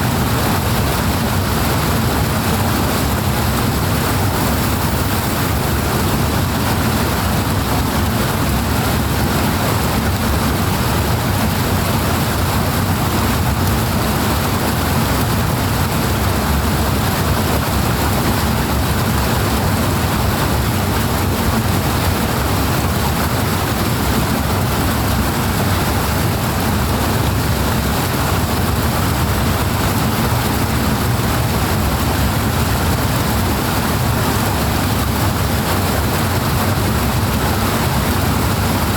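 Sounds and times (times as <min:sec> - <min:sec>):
powerful rushing water: 0:00.0 - 0:38.9.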